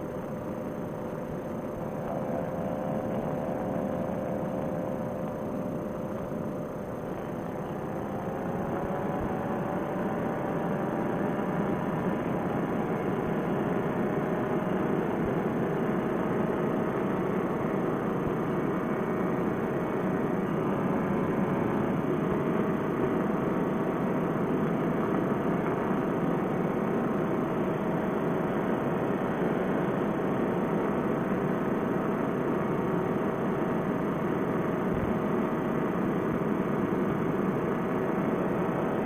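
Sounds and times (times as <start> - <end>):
paramotor engine droning: 0.0 - 39.0.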